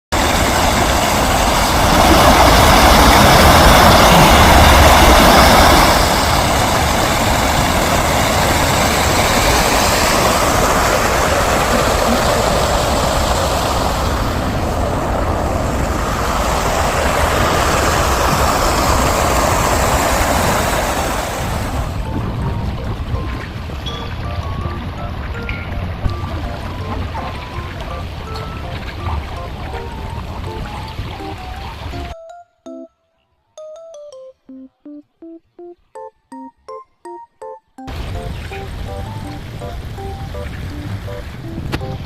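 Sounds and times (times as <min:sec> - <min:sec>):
stream water rushing: 0:00.1 - 0:32.2, 0:37.9 - 0:42.0.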